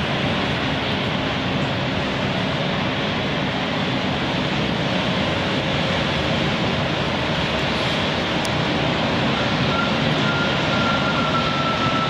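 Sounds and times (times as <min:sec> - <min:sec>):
ground vehicles: 0:00.0 - 0:12.0
jet engines running: 0:00.0 - 0:12.0.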